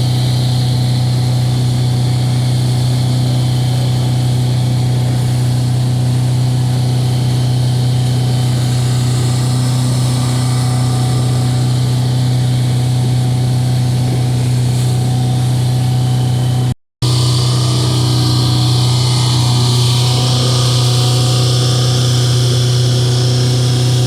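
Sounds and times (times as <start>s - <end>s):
hiss of wind and water: 0.0s - 24.0s
motorboat engine droning: 0.0s - 24.0s.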